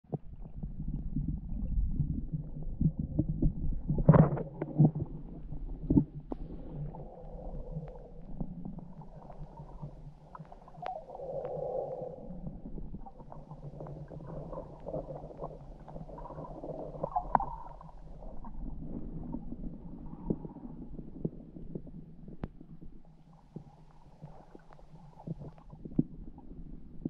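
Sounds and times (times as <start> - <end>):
underwater rumble of moving water: 0.0 - 27.0.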